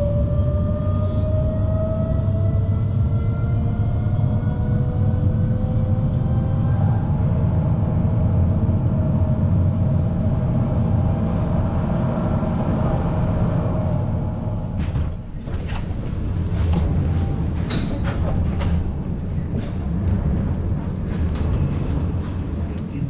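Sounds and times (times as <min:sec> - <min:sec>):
tram rumble on rails: 0:00.0 - 0:23.0.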